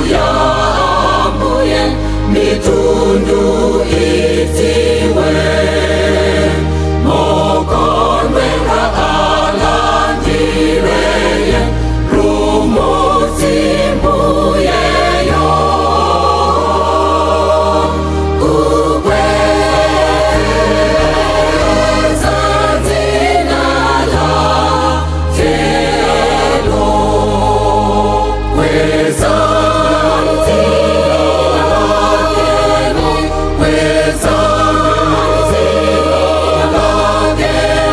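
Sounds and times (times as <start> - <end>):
bass line: 0.0 - 37.9
choir singing in harmony: 0.0 - 37.9.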